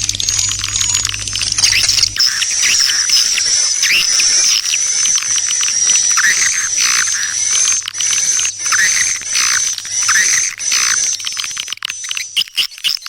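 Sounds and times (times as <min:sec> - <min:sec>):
high-pitched whine: 0:00.0 - 0:12.2
rapid clicking: 0:00.0 - 0:13.0
twittering bird chirps: 0:00.3 - 0:13.0.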